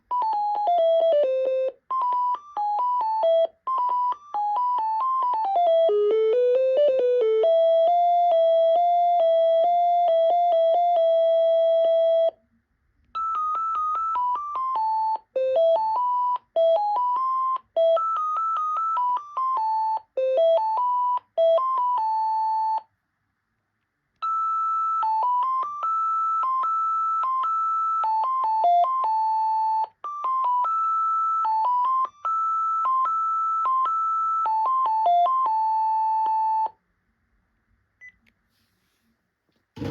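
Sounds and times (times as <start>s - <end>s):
electronic phone ringtone melody: 0.1s - 12.4s, 13.2s - 22.9s, 24.2s - 36.8s.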